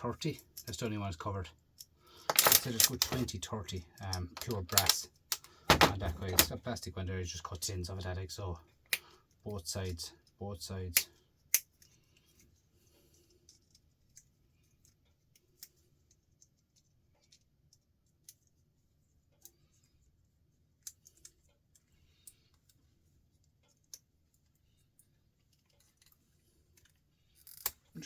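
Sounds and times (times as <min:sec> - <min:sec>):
faint clicks of small parts: 0:00.2 - 0:28.0.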